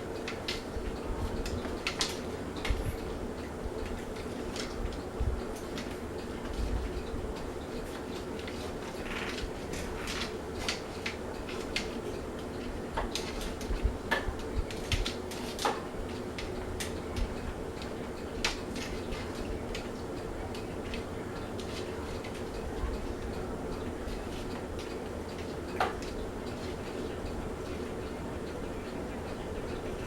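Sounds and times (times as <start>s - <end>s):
ceiling fan motor hum: 0.0s - 30.0s.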